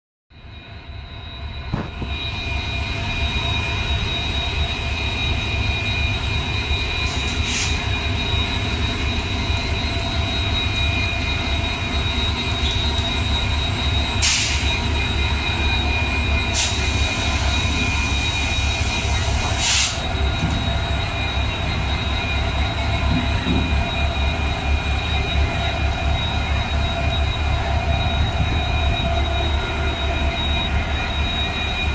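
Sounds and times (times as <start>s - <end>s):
high-pitched whine: 0.4s - 31.9s
diesel locomotive rumble: 0.7s - 31.9s.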